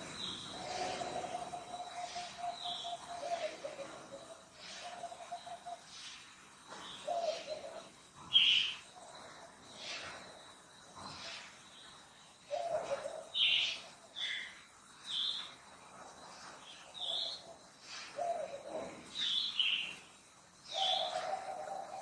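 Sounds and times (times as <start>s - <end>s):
birds hooting and chirping: 0.0s - 15.6s, 16.3s - 22.0s.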